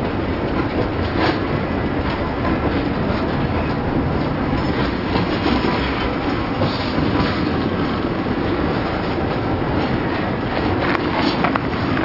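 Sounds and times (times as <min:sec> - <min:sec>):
steel wheels rumbling on rail: 0:00.0 - 0:12.0
wheels clacking over rail joints: 0:00.0 - 0:12.0.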